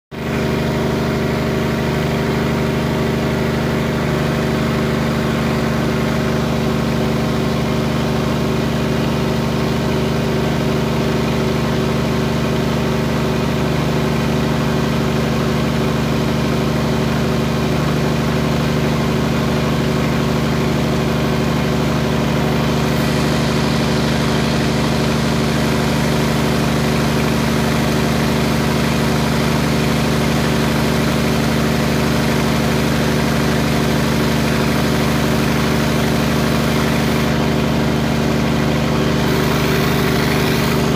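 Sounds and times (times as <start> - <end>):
diesel generator engine drone: 0.1 - 40.9.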